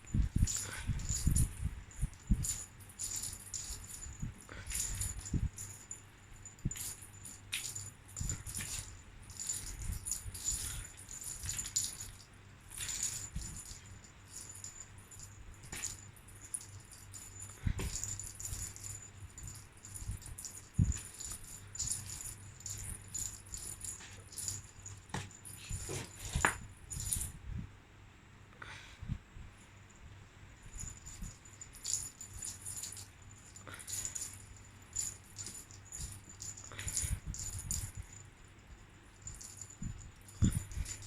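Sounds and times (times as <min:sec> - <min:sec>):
small bell jingling: 0:00.0 - 0:27.4, 0:29.8 - 0:41.0.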